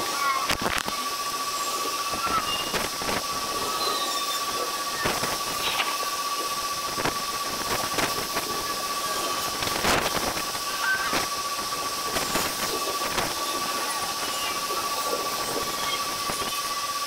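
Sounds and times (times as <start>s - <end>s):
sped up thunderstorm hissing rush: 0.0s - 17.0s
thin constant whine: 0.0s - 17.0s.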